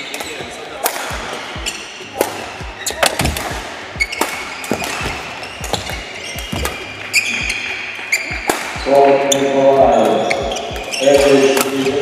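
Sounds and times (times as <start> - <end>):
shoes squeaking on floor: 0.0 - 12.0
rackets striking shuttlecock: 0.1 - 12.0.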